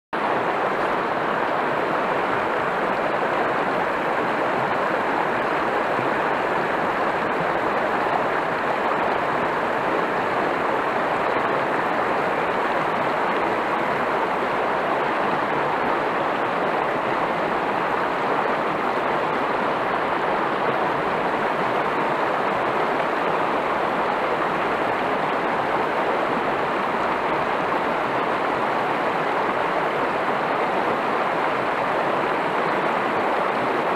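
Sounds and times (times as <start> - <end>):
river water rushing over rapid: 0.2 - 33.9.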